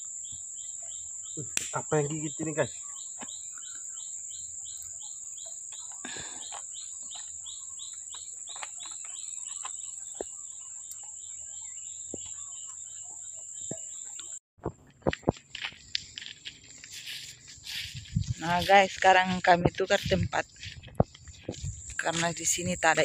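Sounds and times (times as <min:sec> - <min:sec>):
insect chirps: 0:00.0 - 0:14.4, 0:15.2 - 0:23.0
insects droning: 0:00.0 - 0:14.4, 0:15.1 - 0:23.0.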